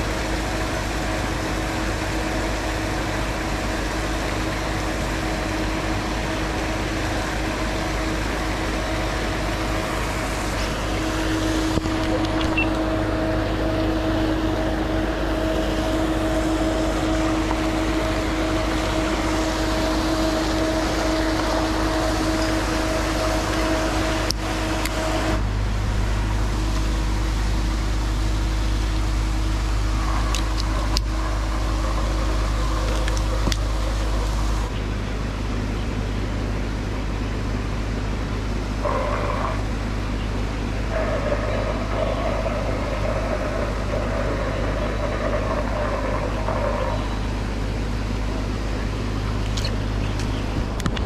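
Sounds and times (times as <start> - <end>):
motor hum: 0.0 - 51.0
paddlewheels churning water: 0.0 - 51.0.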